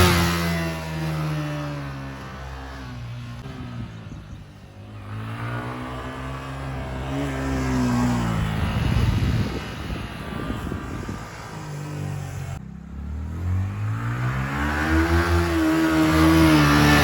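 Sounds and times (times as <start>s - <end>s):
small engine revving: 0.0s - 17.0s.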